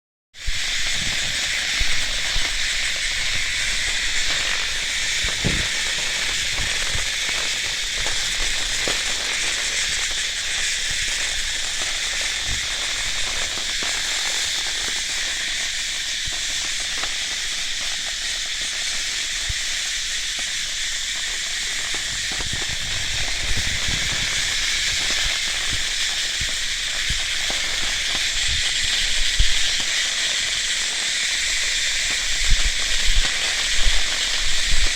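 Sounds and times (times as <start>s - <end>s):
cicadas droning: 0.4s - 34.9s.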